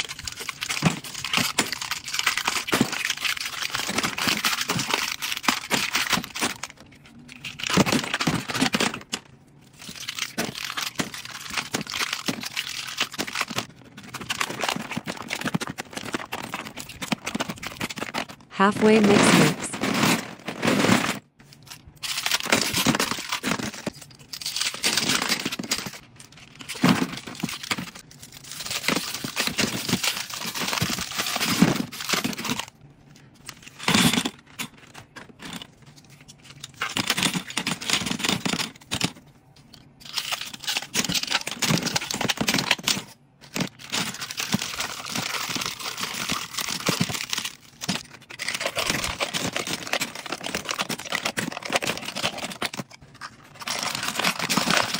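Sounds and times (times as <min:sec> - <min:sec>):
packaging crinkling: 0:00.0 - 0:39.2, 0:39.8 - 0:54.9
plastic tubes clattering: 0:00.0 - 0:54.9.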